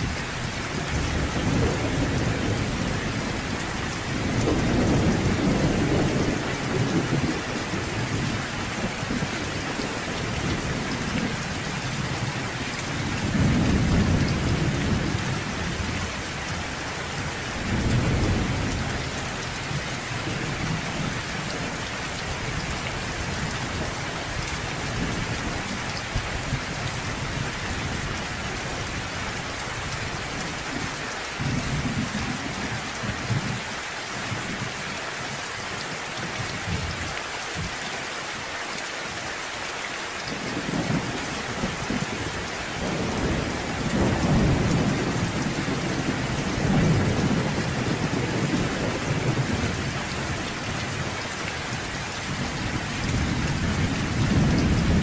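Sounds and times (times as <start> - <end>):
low rolling thunder: 0.0 - 29.1, 31.4 - 33.6, 40.4 - 55.0
steady rain: 0.0 - 55.0.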